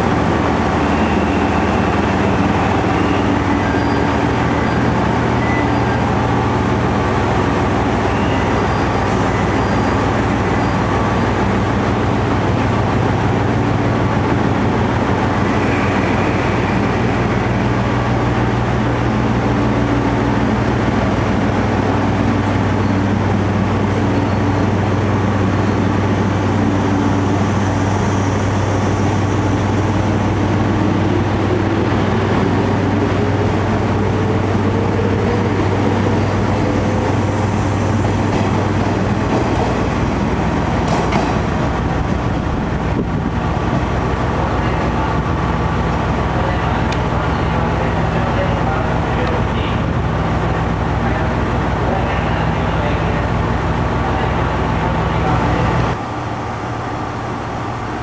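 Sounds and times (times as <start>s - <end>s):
train humming: 0.0s - 58.0s.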